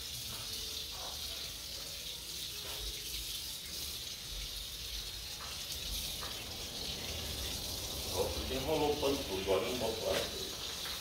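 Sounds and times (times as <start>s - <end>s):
water running from garden hose: 0.0s - 11.0s.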